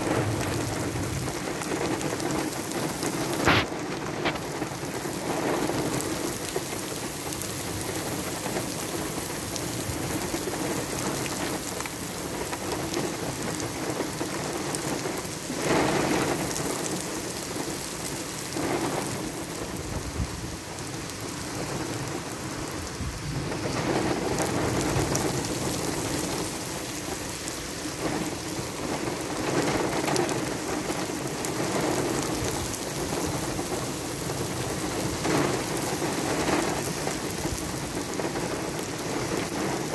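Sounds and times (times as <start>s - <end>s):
heavy rain splashing on pavement: 0.0s - 39.9s.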